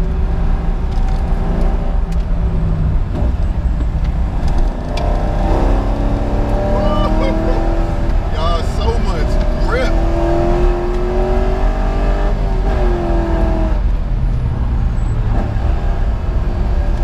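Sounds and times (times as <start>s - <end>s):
car engine running under load: 0.0s - 17.0s.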